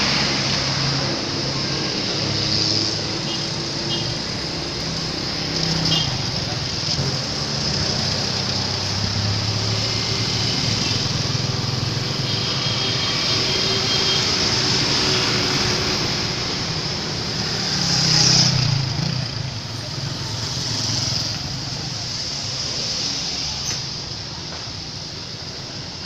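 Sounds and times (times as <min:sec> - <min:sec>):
roadside traffic: 0:00.0 - 0:26.0.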